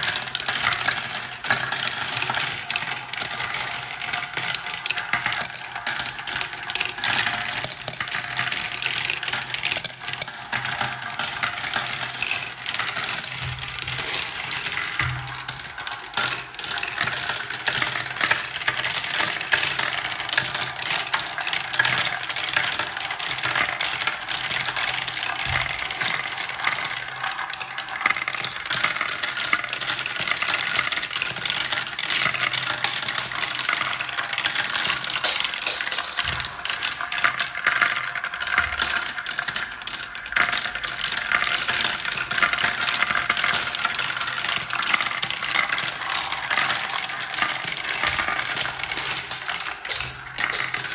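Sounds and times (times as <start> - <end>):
glass marbles rattling through plastic tracks: 0.0 - 50.9.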